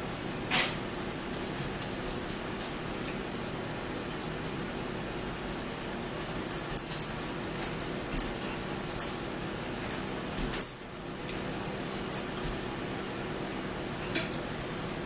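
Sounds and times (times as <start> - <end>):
room fan hum: 0.0 - 15.0.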